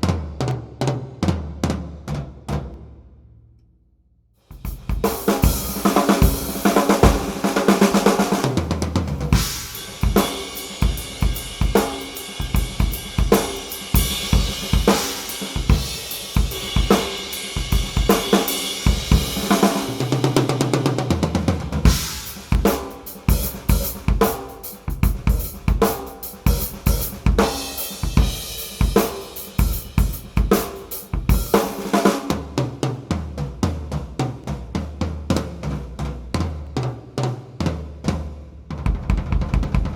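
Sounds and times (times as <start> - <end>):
drum kit groove: 4.4 - 39.9.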